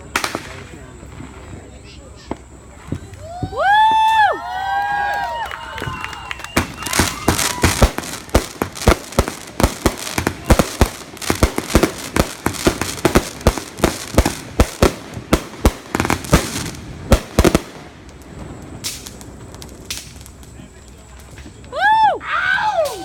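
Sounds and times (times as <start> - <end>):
fireworks bangs: 0.0 - 21.8.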